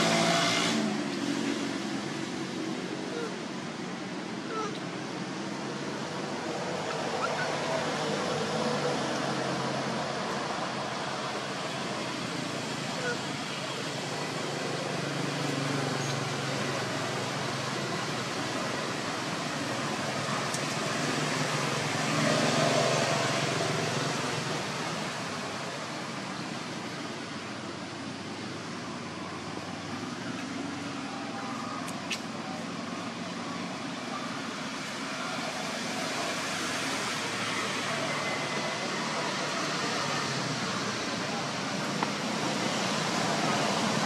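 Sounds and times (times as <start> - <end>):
outdoor background hiss: 0.0 - 44.0.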